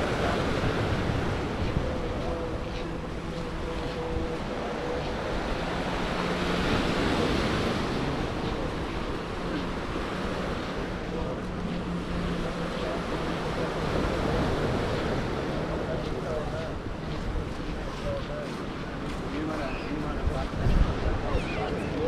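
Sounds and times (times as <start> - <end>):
surf washing against rocks: 0.0 - 22.0
wind on microphone: 0.0 - 22.0.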